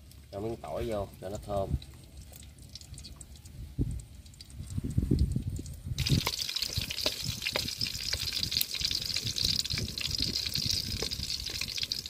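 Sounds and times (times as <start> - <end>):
small pops of frying: 0.0 - 12.0
garlic sizzling in hot oil: 2.2 - 12.0.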